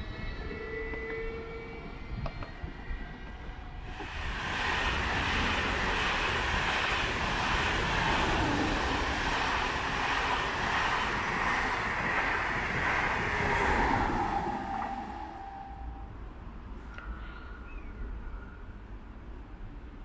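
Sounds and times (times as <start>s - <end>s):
train wheels rushing on rails: 0.0s - 16.8s
faint whine: 0.0s - 19.3s.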